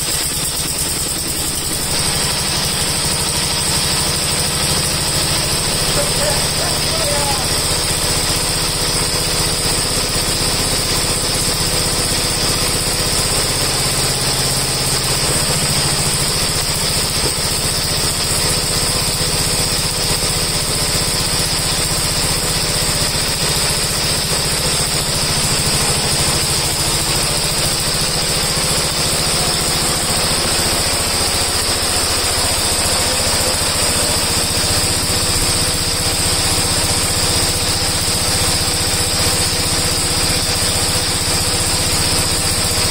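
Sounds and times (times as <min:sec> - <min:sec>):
tractor engine idling: 0:00.0 - 0:42.9.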